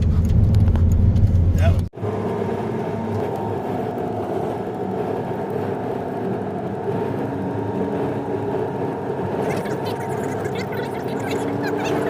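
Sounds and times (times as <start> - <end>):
car cabin road and engine hum: 0.0 - 12.0.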